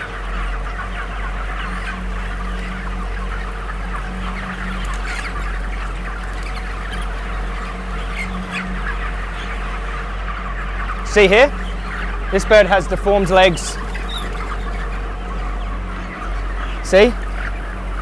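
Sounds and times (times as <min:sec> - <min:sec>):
chickens cheeping and clucking: 0:00.0 - 0:18.0
steady low hum: 0:00.0 - 0:18.0.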